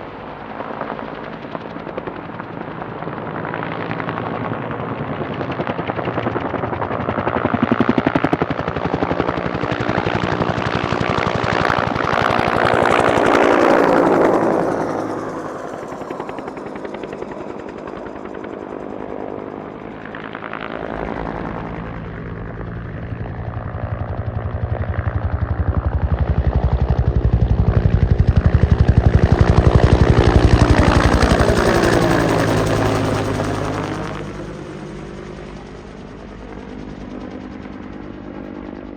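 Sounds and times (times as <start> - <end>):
helicopter rotor beating: 0.0 - 38.9.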